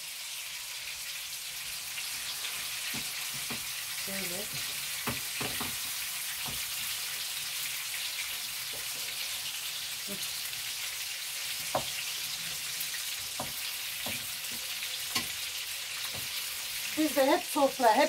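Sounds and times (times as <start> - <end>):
peppers sizzling in oil: 0.0 - 18.0.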